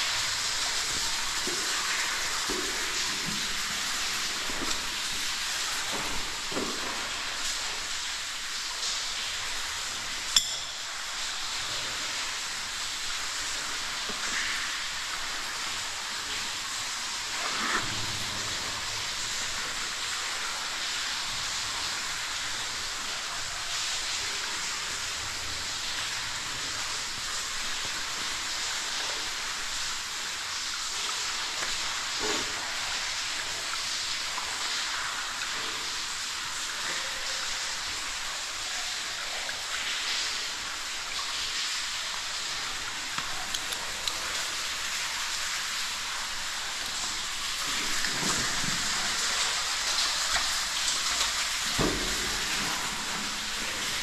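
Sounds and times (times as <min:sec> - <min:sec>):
water falling and spraying: 0:00.0 - 0:54.0.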